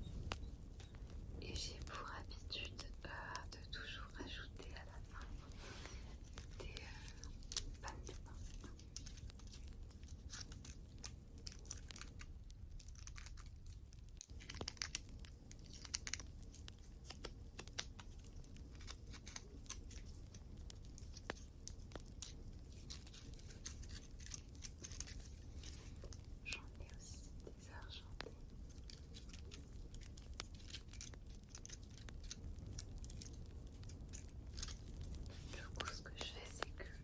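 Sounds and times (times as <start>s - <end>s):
low fire hiss: 0.0s - 37.0s
wood fire crackling and popping: 0.0s - 37.0s.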